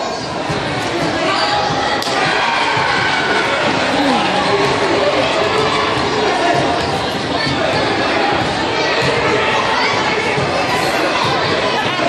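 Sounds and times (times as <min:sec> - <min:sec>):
spectators shouting and cheering: 0:00.0 - 0:12.0.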